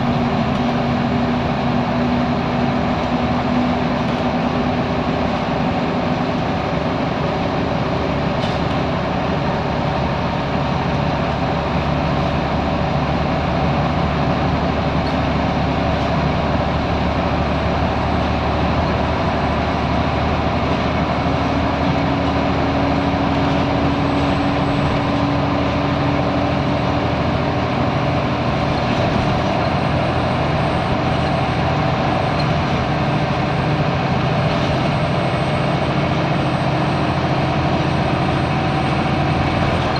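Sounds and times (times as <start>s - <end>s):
bus diesel engine: 0.0s - 39.9s
road noise: 0.0s - 39.9s.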